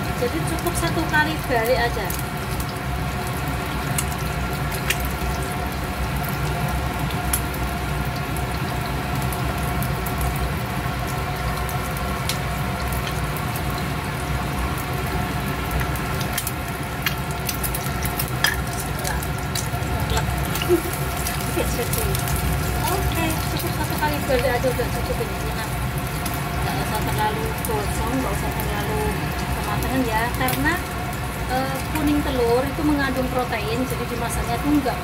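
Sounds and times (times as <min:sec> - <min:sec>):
egg sizzling in oil: 0:00.0 - 0:35.0
steady hum: 0:00.0 - 0:35.0.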